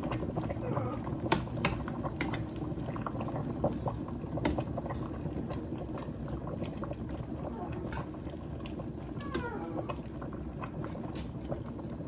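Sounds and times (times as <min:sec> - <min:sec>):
broth bubbling in pot: 0:00.0 - 0:12.0.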